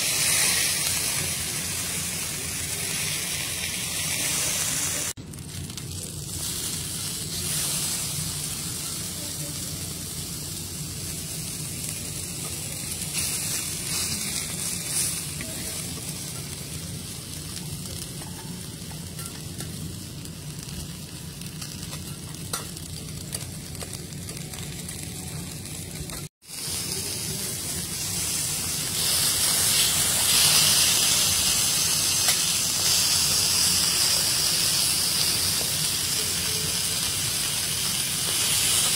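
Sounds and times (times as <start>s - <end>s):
steaks sizzling on a griddle: 0.0s - 38.9s.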